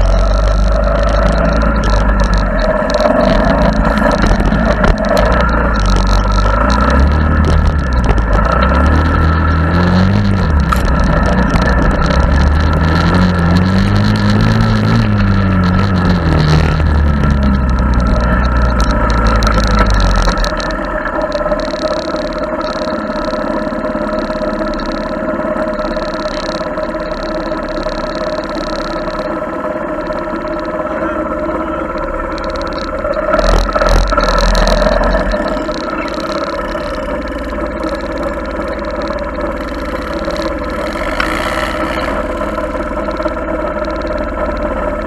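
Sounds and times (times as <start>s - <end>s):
small engine revving: 0.0s - 45.0s.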